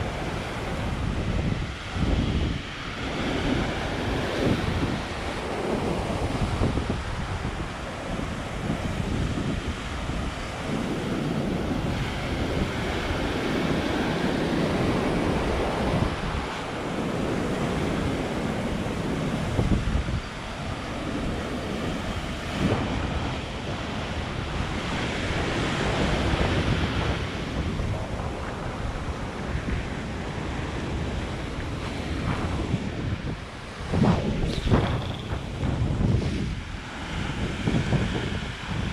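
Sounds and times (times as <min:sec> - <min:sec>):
surf breaking on rocky shore: 0:00.0 - 0:38.9
wind buffeting microphone: 0:00.0 - 0:38.9.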